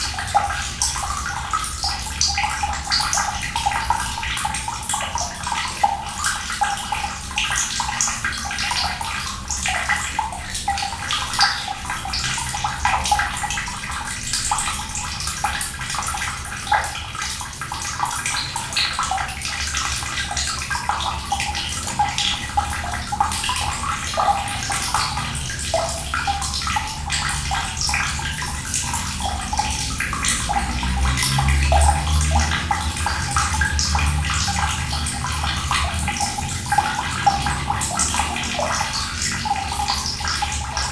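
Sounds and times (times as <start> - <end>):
running water splashing: 0.0 - 40.9.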